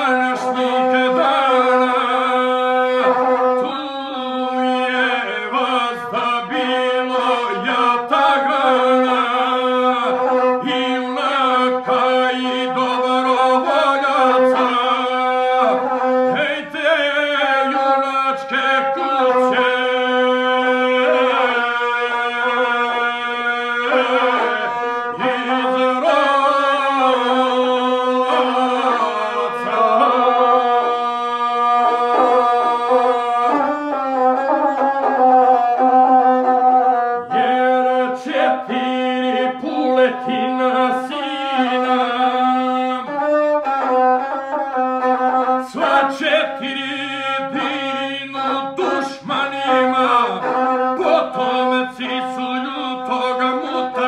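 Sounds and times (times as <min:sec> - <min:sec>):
bowed single-string fiddle: 0:00.0 - 0:54.0
man singing: 0:00.0 - 0:54.0.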